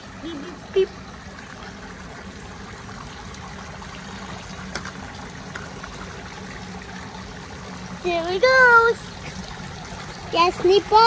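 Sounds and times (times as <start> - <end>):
low steady hum: 0.0 - 11.0
water trickling: 0.0 - 11.0.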